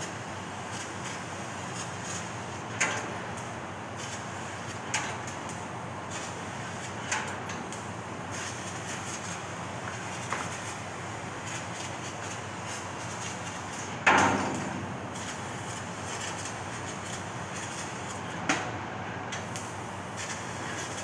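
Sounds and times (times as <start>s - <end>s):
laser cutter hiss and hum: 0.0s - 18.4s, 19.4s - 21.0s.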